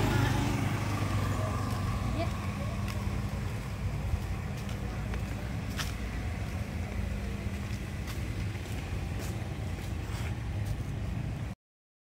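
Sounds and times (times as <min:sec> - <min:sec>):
road traffic rumble: 0:00.0 - 0:11.6.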